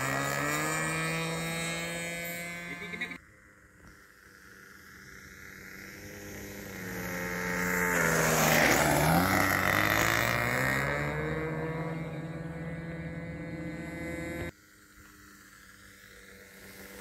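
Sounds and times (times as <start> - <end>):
model plane engine passing: 0.0 - 17.0.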